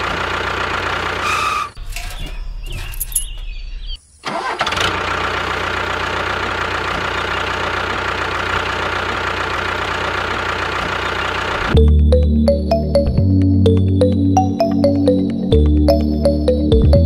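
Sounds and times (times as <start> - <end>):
tractor engine idling: 0.0 - 2.2, 4.3 - 17.0.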